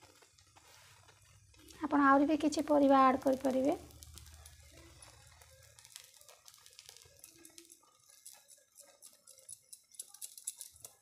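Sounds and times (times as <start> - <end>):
vegetables pattering onto batter: 0.0 - 11.0.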